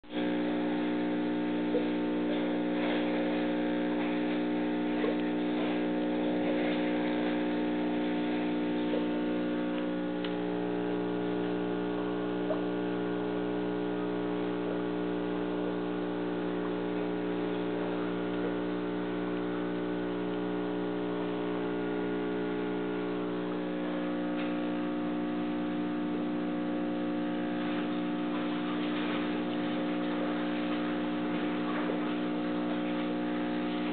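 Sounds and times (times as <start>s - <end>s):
aquarium equipment humming: 0.0s - 33.9s.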